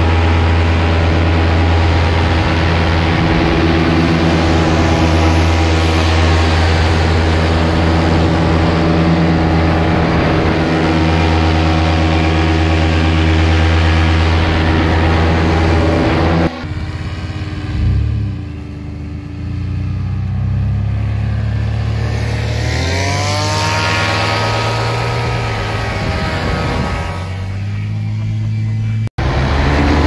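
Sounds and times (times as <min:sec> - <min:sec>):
paramotor engine drone: 0:00.0 - 0:30.0.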